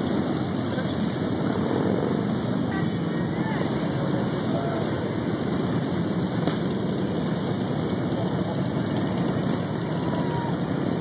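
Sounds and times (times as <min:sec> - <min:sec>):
murmur of voices: 0:00.0 - 0:11.0
vehicle engines idling: 0:00.0 - 0:11.0.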